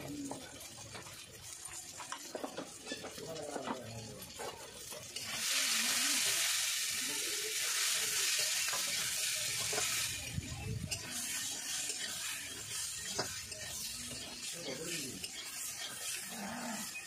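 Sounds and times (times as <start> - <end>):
onions and tomatoes sizzling in oil: 0.0 - 17.0
metal spatula scraping pan: 0.2 - 6.4, 7.7 - 17.0.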